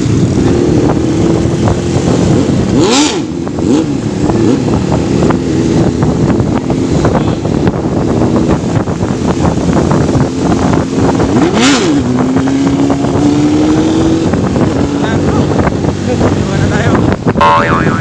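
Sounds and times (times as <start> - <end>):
motorcycle engine running: 0.0 - 18.0
rush of noise: 0.0 - 18.0.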